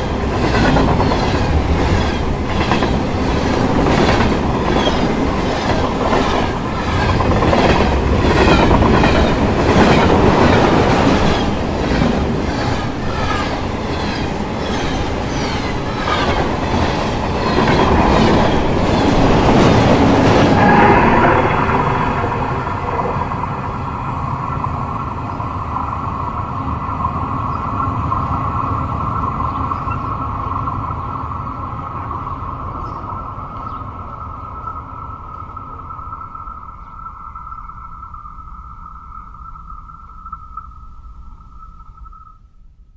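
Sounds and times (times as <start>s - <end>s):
train hum with whine: 0.0s - 42.6s.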